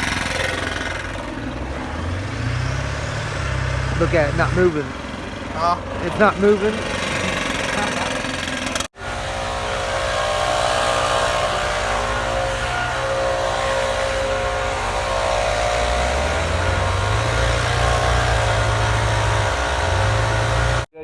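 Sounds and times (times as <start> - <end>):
deep low hum: 0.0 - 20.9
engine running: 0.0 - 21.0.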